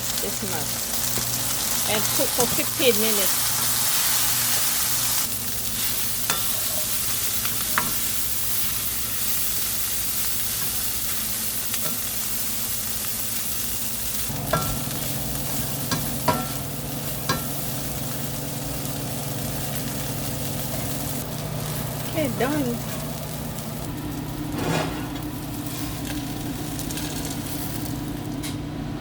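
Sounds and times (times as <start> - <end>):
food sizzling in a pan: 0.0 - 28.5.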